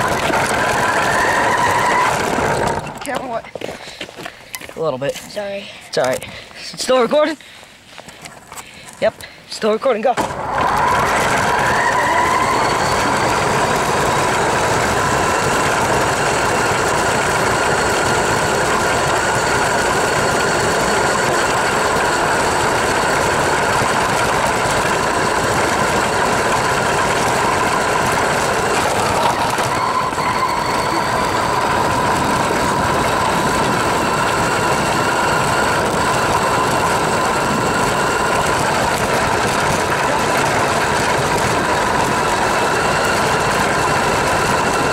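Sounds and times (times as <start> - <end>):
electric motor whining: 0.0 - 3.2, 10.2 - 44.9.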